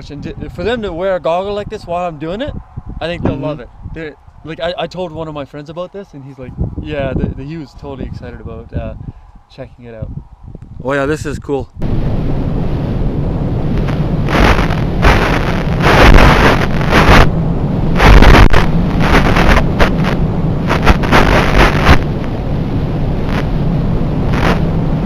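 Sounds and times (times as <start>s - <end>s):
wind buffeting microphone: 0.0s - 5.4s, 6.3s - 25.0s.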